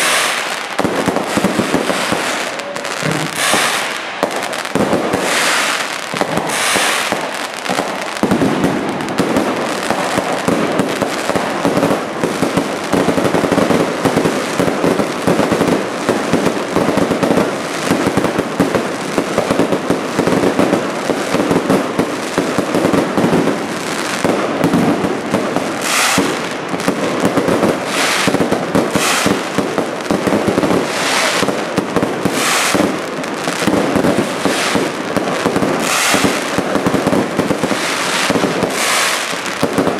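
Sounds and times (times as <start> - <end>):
fireworks bangs and crackling: 0.0 - 39.9
sharp high crackle bursts: 0.0 - 39.9.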